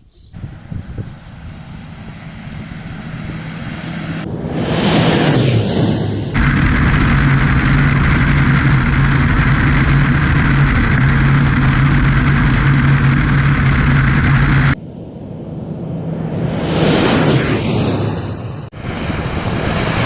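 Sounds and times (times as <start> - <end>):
turboprop engine droning: 0.3 - 20.0
low rumble: 0.4 - 20.0.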